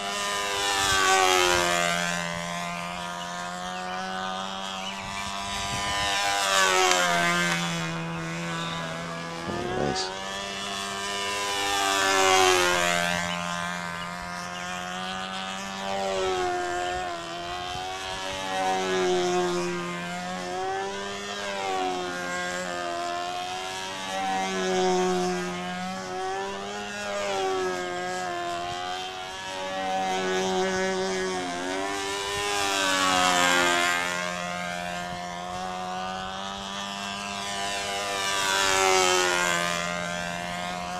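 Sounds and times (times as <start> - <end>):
model airplane motor buzzing: 0.0 - 40.9.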